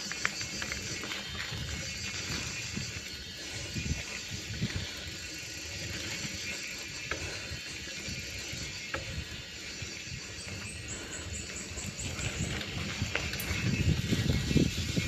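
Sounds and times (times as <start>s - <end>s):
bike tires rolling hiss: 0.0s - 15.0s.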